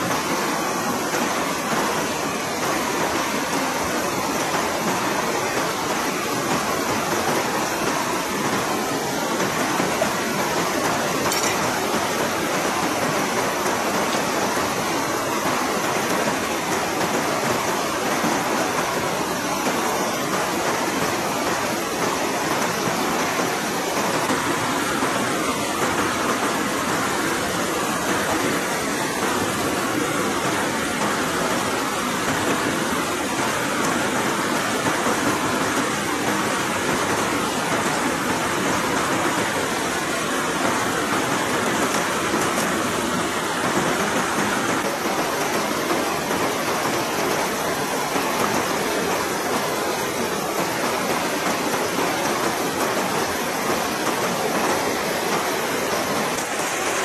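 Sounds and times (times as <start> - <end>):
river water rushing over rapids: 0.0 - 57.0.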